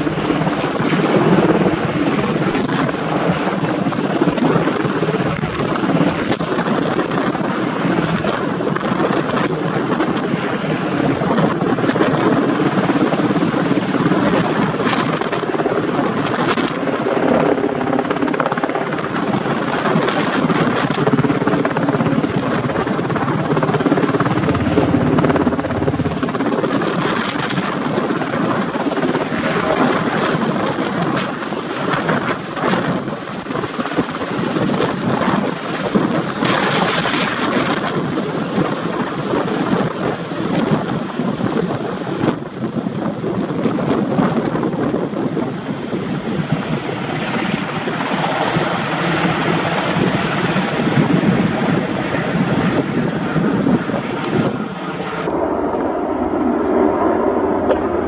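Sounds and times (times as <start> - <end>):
helicopter rotor and turbine noise: 0.0 - 58.0.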